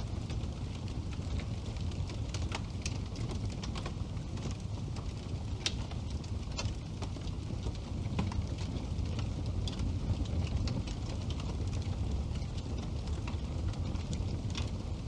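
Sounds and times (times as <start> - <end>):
burning wood crackling and popping: 0.0 - 15.0
fire flames rumbling: 0.0 - 15.0.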